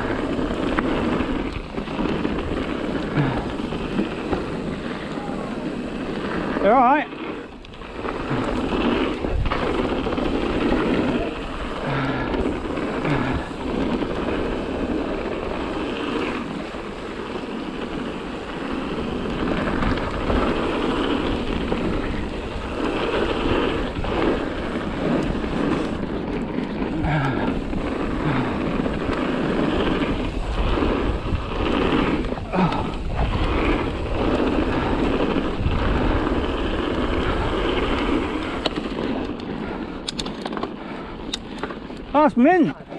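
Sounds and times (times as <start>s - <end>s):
wind rushing on microphone: 0.0s - 40.3s
bike knocking and rattling: 0.0s - 42.9s
bike tyres on dirt: 0.0s - 42.9s.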